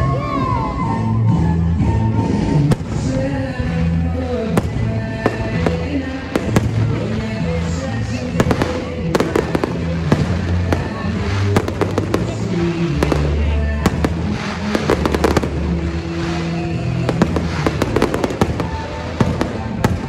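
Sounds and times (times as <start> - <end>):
fireworks bursting with sharp bangs: 2.3 - 20.0.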